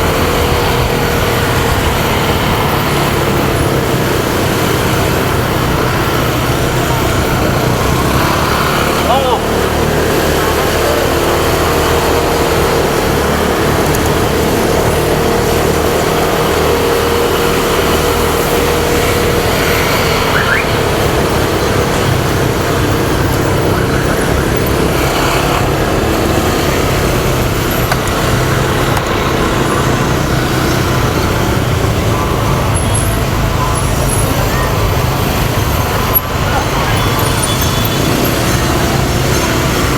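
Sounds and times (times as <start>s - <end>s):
motorcycle engine running: 0.0s - 39.9s
road and traffic noise: 0.0s - 39.9s.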